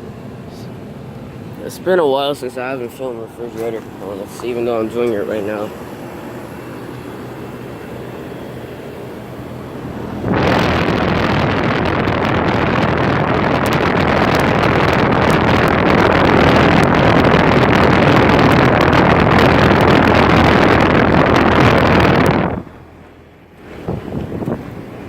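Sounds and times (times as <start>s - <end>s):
wind buffeting microphone: 1.2s - 25.0s.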